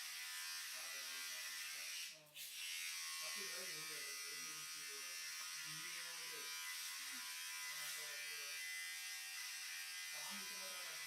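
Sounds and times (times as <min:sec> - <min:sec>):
small electric motor buzzing: 0:00.0 - 0:11.0.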